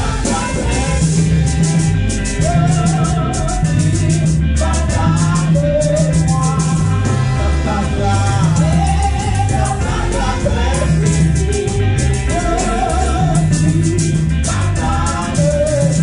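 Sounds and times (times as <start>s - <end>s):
moving bass line: 0.0s - 16.0s
quick percussion beat: 0.0s - 16.0s
voices singing praise song: 0.0s - 16.0s.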